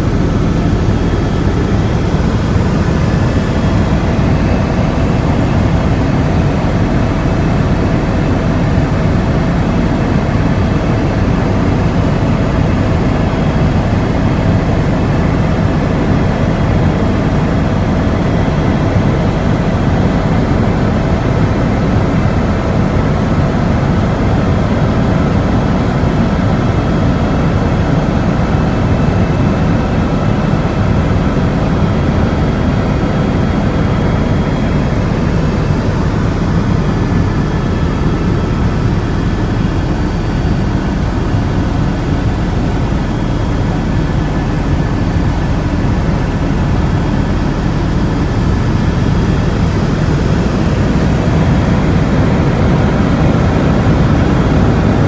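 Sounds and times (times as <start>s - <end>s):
loud engine drone: 0.0s - 55.0s.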